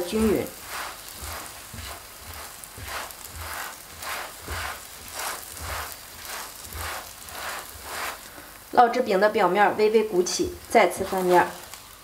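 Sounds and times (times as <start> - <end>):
spatula scraping pan: 0.0 - 8.6, 10.2 - 11.9
flatbread sizzling in oil: 0.0 - 12.0.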